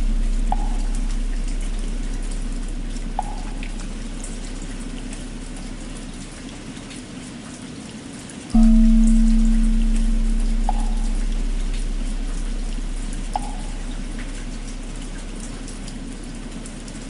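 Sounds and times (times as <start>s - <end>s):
struck bell humming: 0.0s - 5.9s, 8.6s - 16.9s
water drops: 0.0s - 7.0s, 8.5s - 17.0s
steady rain: 0.0s - 17.0s.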